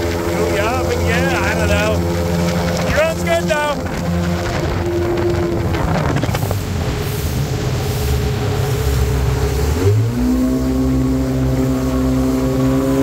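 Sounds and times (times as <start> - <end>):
boat engine droning: 0.0 - 13.0
wind and water rushing: 0.0 - 13.0.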